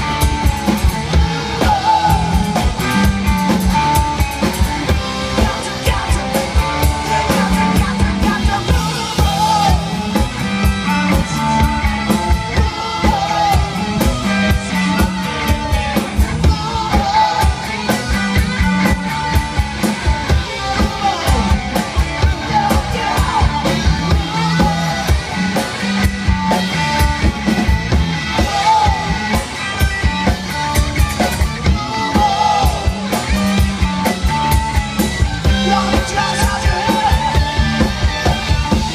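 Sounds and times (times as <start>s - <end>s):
drum kit beat: 0.0s - 38.9s
electric guitars and bass: 0.0s - 38.9s.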